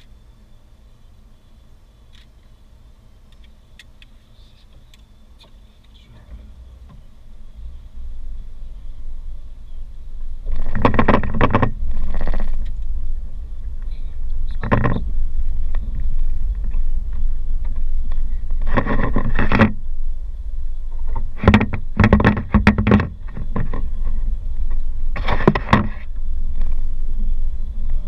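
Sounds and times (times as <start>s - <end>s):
vehicle low rumble: 0.0s - 28.0s
vehicle clattering over bumps: 4.8s - 28.0s.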